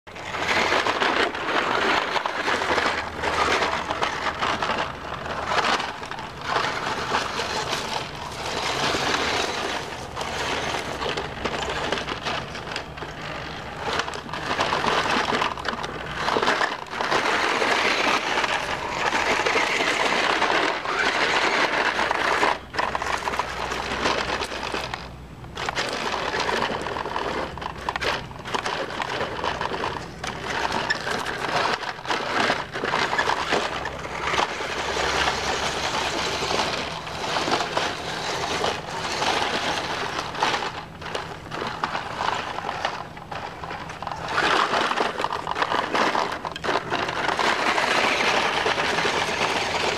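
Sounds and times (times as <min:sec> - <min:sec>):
toy electric motor grinding: 0:00.1 - 0:49.9
tyres scraping on rock: 0:00.1 - 0:49.9.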